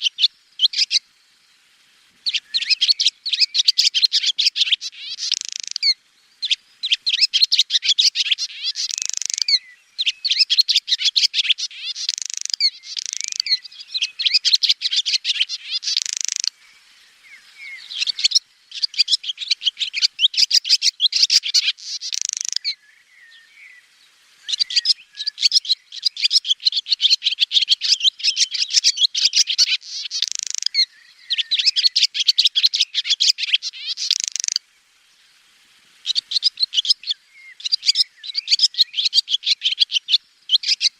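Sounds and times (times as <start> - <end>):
swallow twittering: 0.0 - 1.0, 2.2 - 34.6, 36.0 - 40.9.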